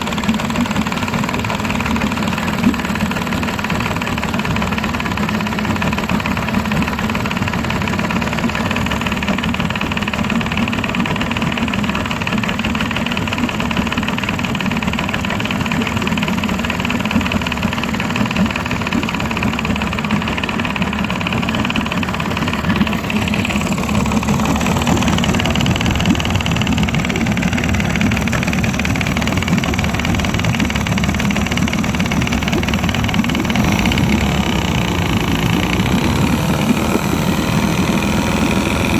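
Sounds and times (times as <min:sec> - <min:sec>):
moped engine running near idle: 0:00.0 - 0:38.9.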